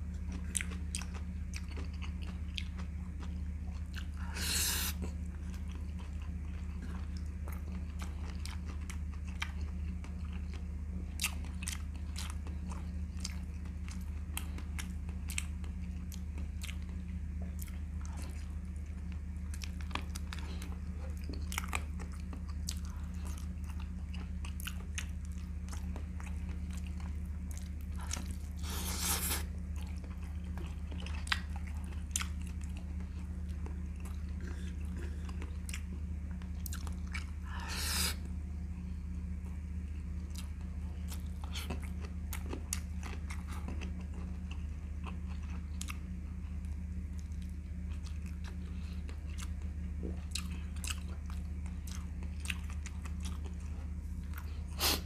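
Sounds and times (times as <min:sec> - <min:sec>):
steady low hum: 0:00.0 - 0:55.0
chewing with wet mouth clicks: 0:00.1 - 0:04.2, 0:04.8 - 0:37.4, 0:39.4 - 0:55.0.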